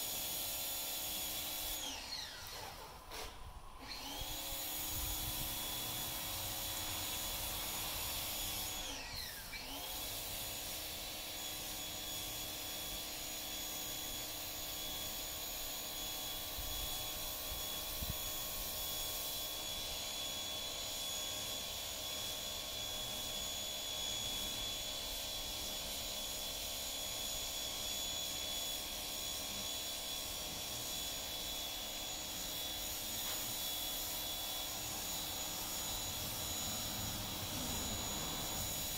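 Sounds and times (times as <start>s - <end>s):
machine motor whine: 0.0s - 38.9s.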